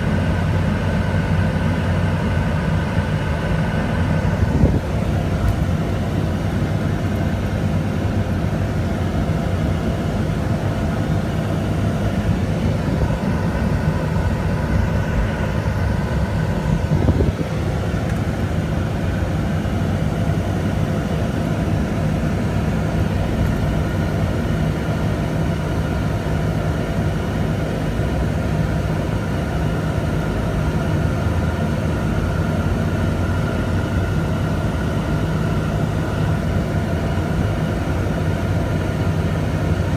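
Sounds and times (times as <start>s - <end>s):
engine drone with low rumble: 0.0s - 39.9s.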